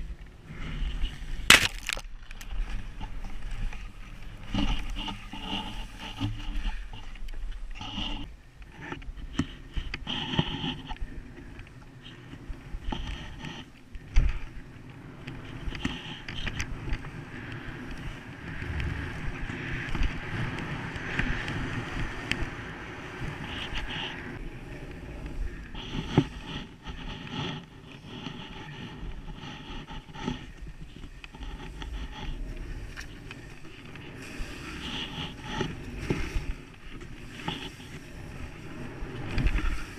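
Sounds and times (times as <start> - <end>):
skis scraping over snow: 0.0 - 39.9
wind on microphone: 2.1 - 39.9.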